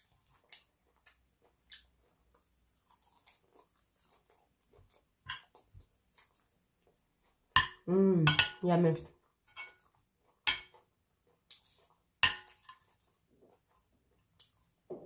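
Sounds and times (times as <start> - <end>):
faint chewing of salad leaves: 0.0 - 7.6, 9.0 - 14.9.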